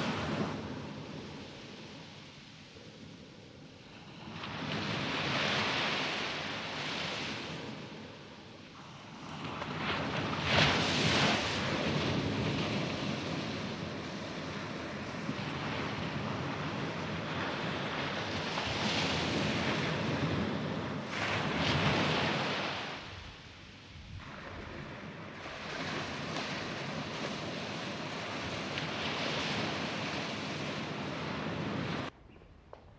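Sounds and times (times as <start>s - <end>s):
wind: 0.0s - 32.9s
surf washing onto shore: 3.9s - 32.1s.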